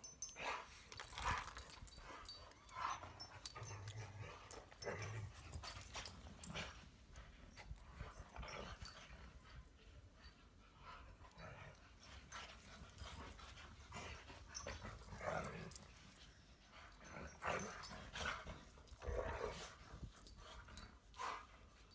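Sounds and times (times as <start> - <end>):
dogs play-fighting: 0.0 - 21.9.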